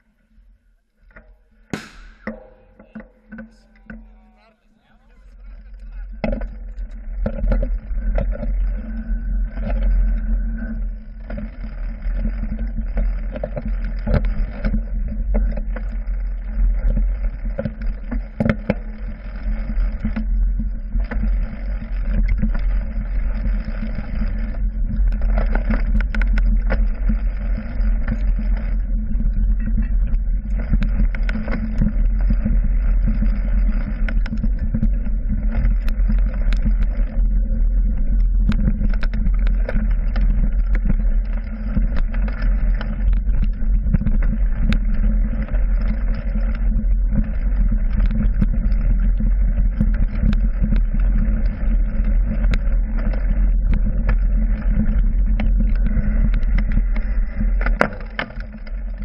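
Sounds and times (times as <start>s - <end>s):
low rumble of wind and vibration: 0.0s - 59.0s
bike and mount clicks and rattles: 5.4s - 59.0s.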